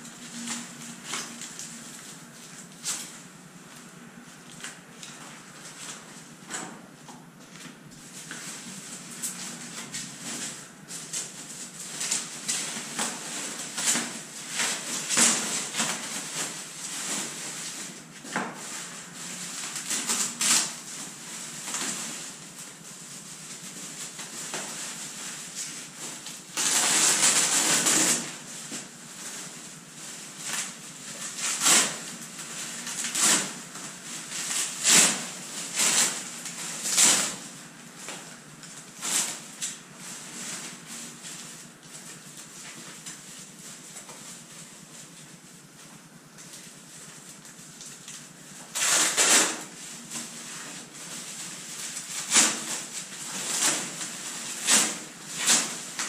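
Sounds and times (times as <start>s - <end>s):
plastic wrapping crinkling: 0.0s - 56.0s.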